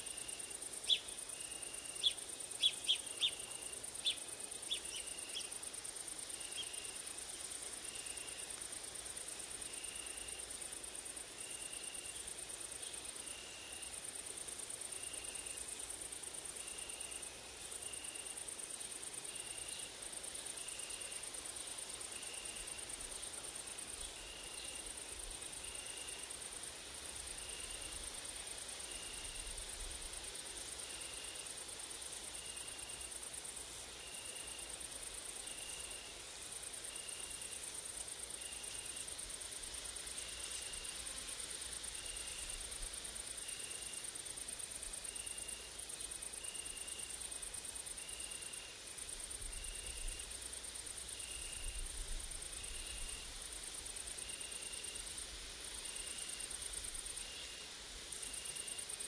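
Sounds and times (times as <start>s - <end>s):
short insect chirp: 0.0s - 5.6s, 6.2s - 14.1s, 19.2s - 59.0s
insects buzzing high-pitched: 0.0s - 59.0s.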